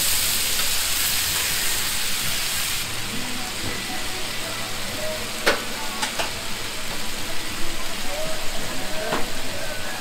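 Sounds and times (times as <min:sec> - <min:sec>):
chicken sizzling on griddle: 0:00.0 - 0:10.0.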